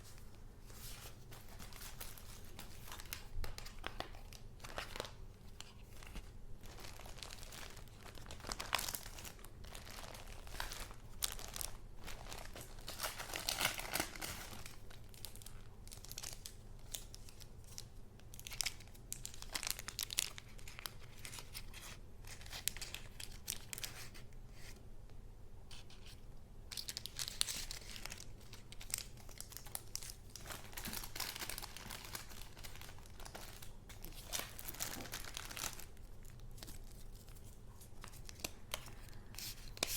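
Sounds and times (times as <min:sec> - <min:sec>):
paper and plastic crinkling: 0:00.0 - 0:24.8, 0:25.7 - 0:39.9.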